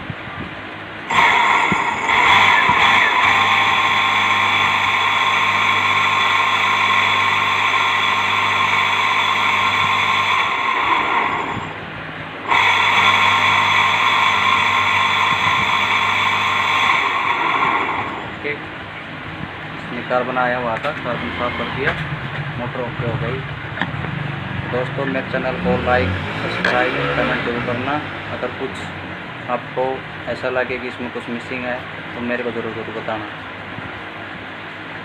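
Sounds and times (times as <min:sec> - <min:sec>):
water pump motor whining: 0:01.0 - 0:32.1.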